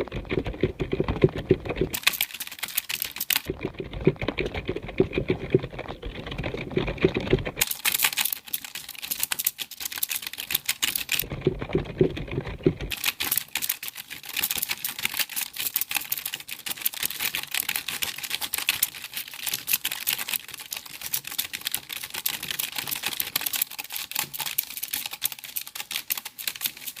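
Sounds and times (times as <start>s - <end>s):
computer keyboard typing: 0.0s - 27.0s.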